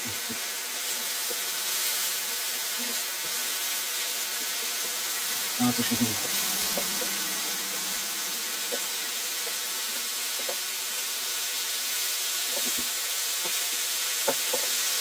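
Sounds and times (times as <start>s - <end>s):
chicken frying in hot oil: 0.0s - 8.7s, 10.2s - 15.0s.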